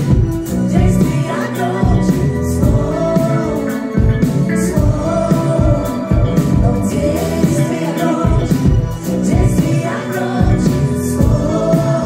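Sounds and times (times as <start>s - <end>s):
live pop-rock band: 0.0s - 12.0s
person singing: 0.0s - 12.0s.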